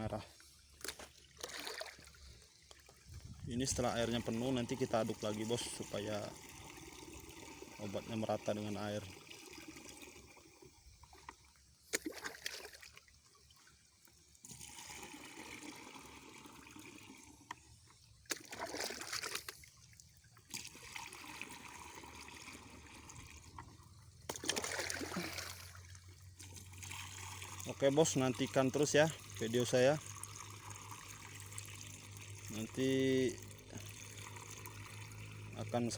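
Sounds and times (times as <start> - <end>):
water sloshing into a tank: 0.0 - 35.9.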